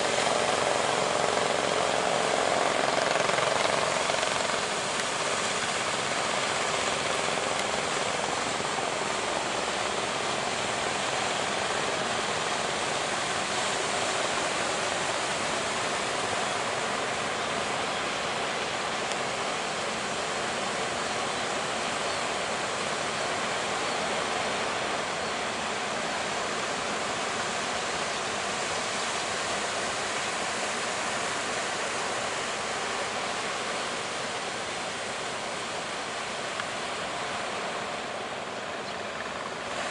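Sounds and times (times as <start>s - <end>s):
surf roaring: 0.0s - 39.9s.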